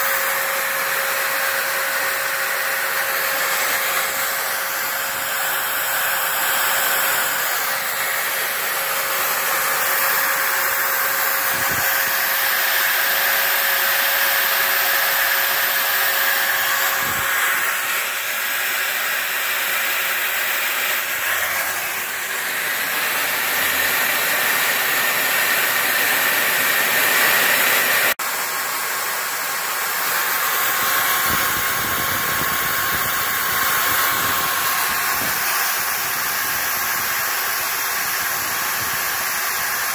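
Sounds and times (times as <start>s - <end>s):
router motor cutting foam: 0.0s - 39.9s.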